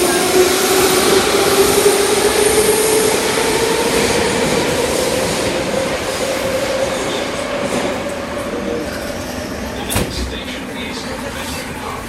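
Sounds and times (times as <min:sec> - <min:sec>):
metro train rushing: 0:00.0 - 0:12.0.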